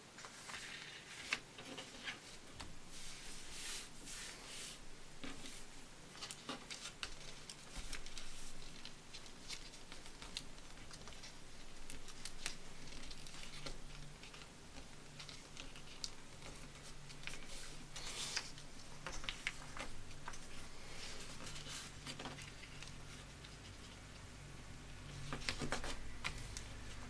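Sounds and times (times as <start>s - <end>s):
paper being folded and creased: 0.1s - 24.2s, 25.1s - 27.0s.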